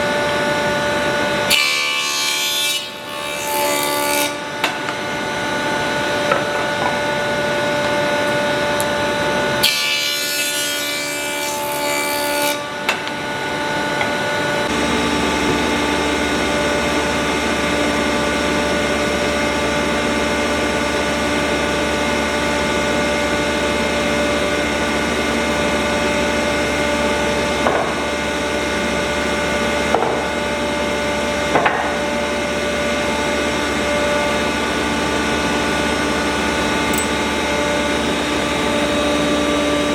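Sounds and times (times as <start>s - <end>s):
power tool sawing wood: 0.0s - 39.9s.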